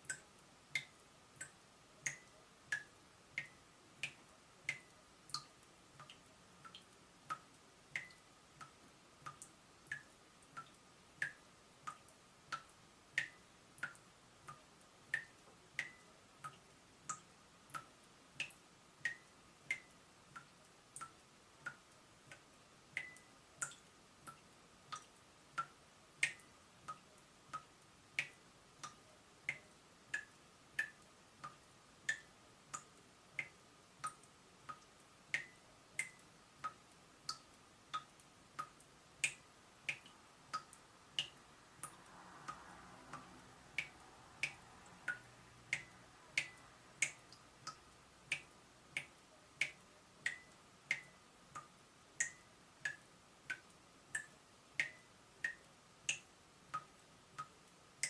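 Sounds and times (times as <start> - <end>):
water dripping from tap: 0.0 - 57.8.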